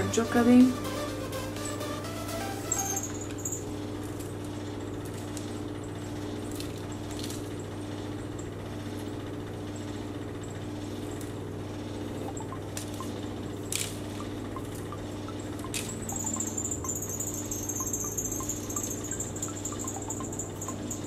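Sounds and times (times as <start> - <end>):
kitchen appliance hum: 0.0 - 21.0.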